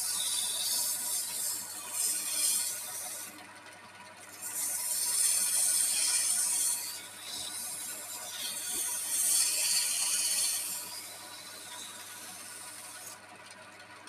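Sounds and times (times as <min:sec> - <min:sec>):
wood lathe cutting hiss: 0:00.0 - 0:03.4, 0:04.2 - 0:13.2.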